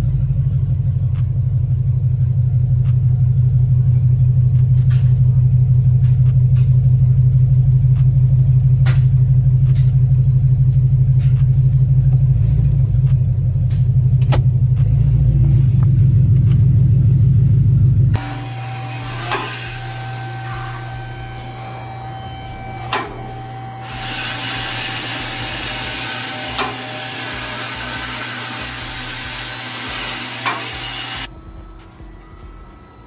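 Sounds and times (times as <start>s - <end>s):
car engine exhaust rumble: 0.0s - 30.4s.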